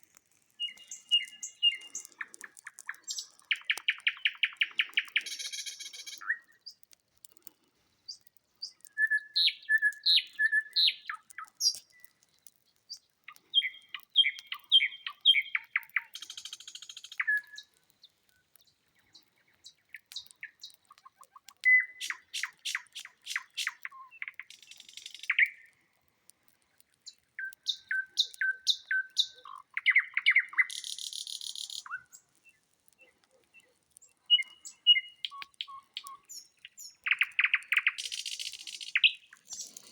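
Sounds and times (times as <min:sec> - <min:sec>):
nightingale singing: 0:00.6 - 0:06.8, 0:08.1 - 0:25.8, 0:27.0 - 0:39.9.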